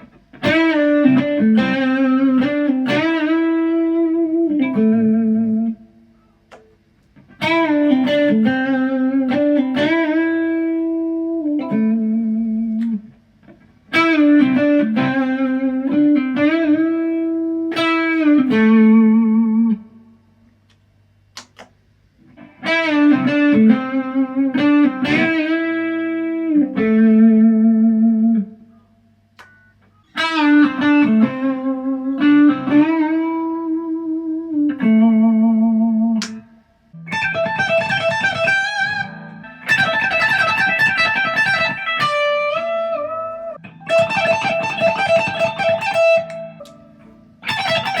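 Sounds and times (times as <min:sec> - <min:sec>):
electric guitar lick: 0:00.0 - 0:20.1, 0:20.7 - 0:48.0.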